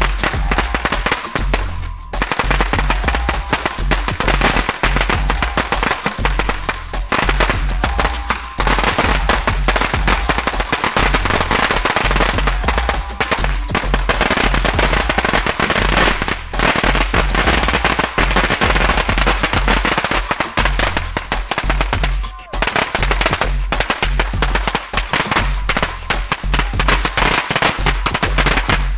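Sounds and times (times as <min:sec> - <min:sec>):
firecrackers crackling: 0:00.0 - 0:28.9.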